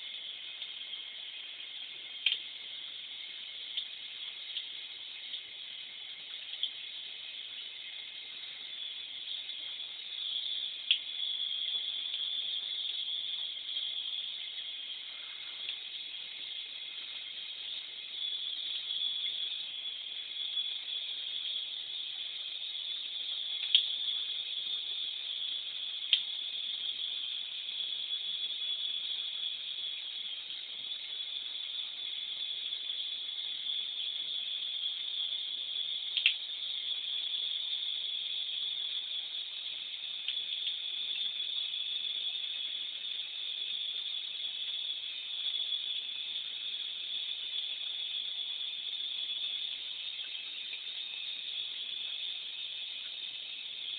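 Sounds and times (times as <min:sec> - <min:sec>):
water running in bathtub: 0:00.0 - 0:53.9.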